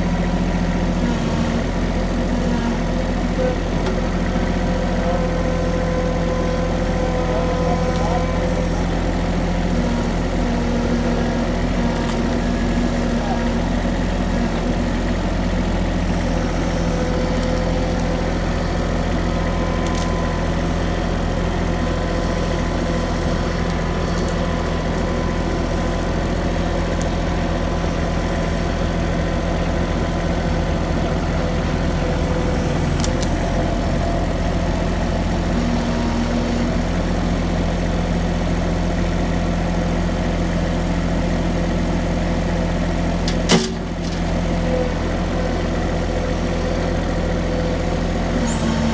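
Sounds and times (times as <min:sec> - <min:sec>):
vehicle engine idling: 0:00.0 - 0:48.9.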